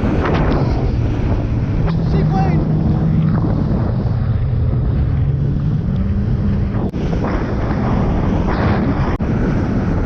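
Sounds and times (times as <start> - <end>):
jet ski engine hum: 0.0 - 10.0
wind buffeting microphone: 0.0 - 10.0.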